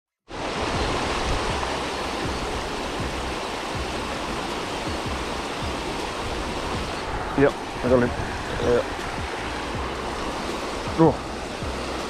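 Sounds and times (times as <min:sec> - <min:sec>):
wind buffeting microphone: 0:00.3 - 0:12.0
low thumps: 0:00.6 - 0:12.0.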